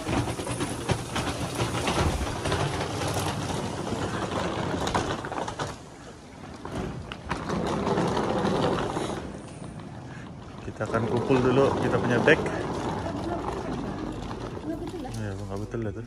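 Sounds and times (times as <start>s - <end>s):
knocks and clatter: 0.0s - 16.0s.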